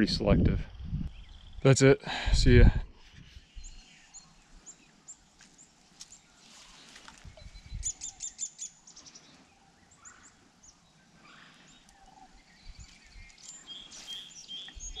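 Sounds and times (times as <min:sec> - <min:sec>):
faint outdoor background hiss: 0:00.0 - 0:15.0
songbirds chirping: 0:00.0 - 0:15.0.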